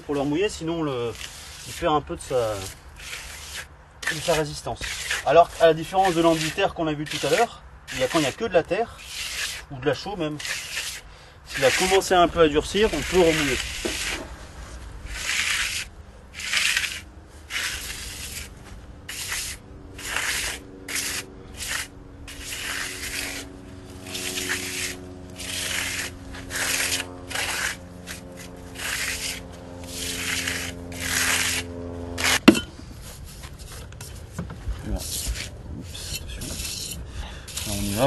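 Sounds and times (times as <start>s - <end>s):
hand tool scraping render: 0.0s - 38.0s.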